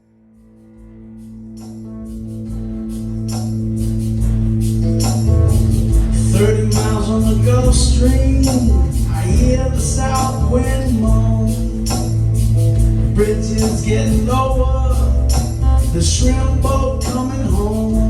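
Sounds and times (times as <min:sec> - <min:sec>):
held low bass note: 0:00.0 - 0:18.0
tambourine keeping time: 0:00.4 - 0:18.0.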